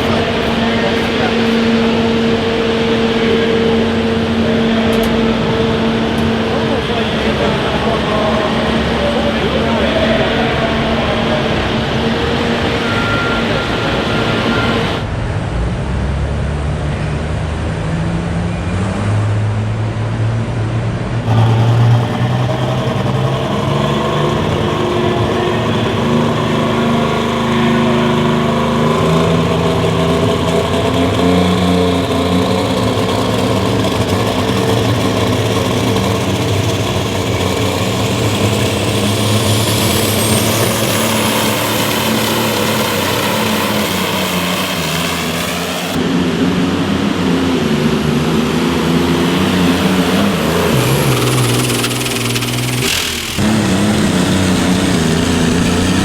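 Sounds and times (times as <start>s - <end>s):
high whine: 0.0s - 18.0s, 21.0s - 56.0s
engine running hard under load: 0.0s - 56.0s.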